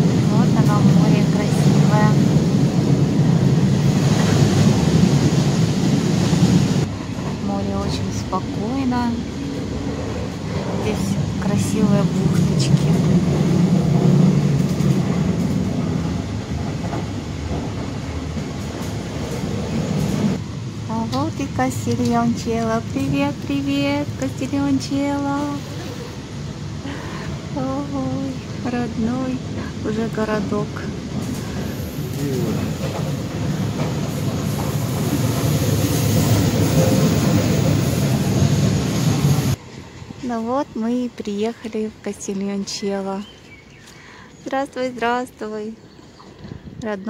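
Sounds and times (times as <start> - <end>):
train wheels rumbling on rails: 0.0 - 45.4.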